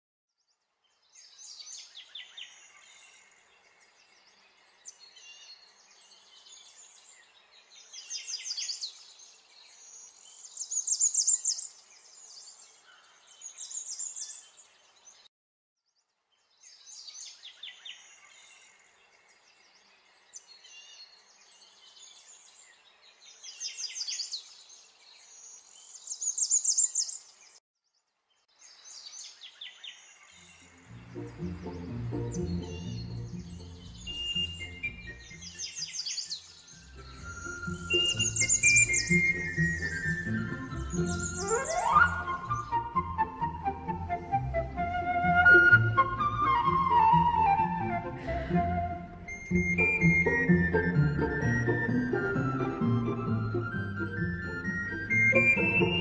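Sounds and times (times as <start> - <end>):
birds chirping and trilling: 0.4 - 15.3, 16.3 - 56.0.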